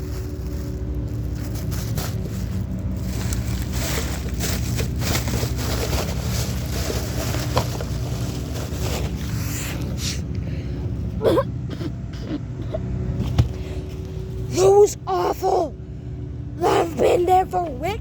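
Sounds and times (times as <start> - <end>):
low motor hum: 0.0 - 18.0.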